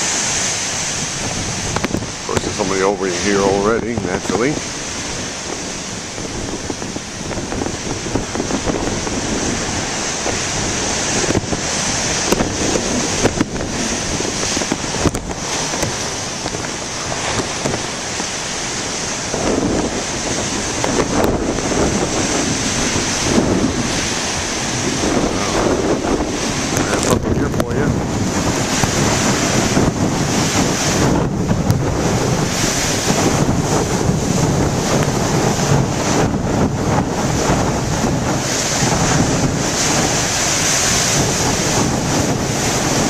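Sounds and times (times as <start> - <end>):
storm waves breaking in surf: 0.0 - 43.0
wind buffeting microphone: 0.0 - 43.0.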